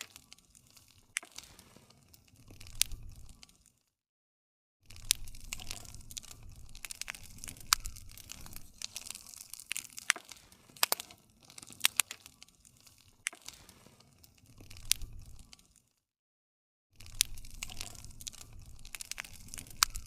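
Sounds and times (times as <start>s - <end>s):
campfire crackling and popping: 0.0s - 3.8s, 4.9s - 16.0s, 17.0s - 20.0s.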